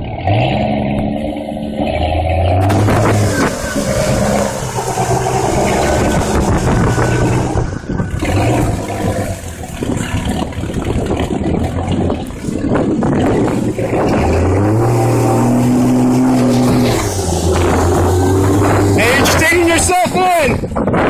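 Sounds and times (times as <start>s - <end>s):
engine revving: 0.0s - 20.3s
tires spinning in mud: 0.0s - 21.0s.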